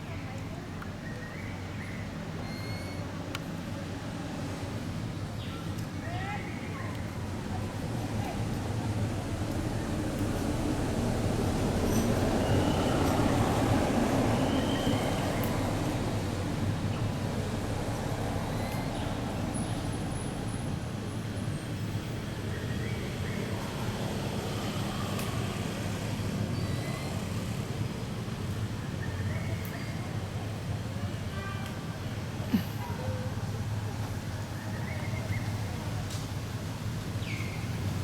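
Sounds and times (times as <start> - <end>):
low rumble of traffic: 0.0 - 38.0.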